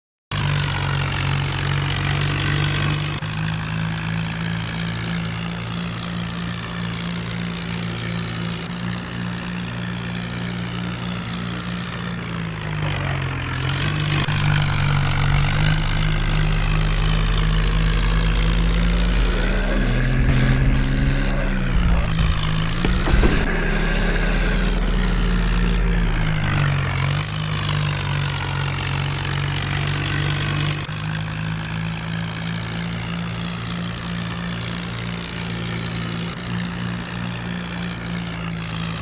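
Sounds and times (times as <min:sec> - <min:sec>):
tractor engine running: 0:00.3 - 0:39.0.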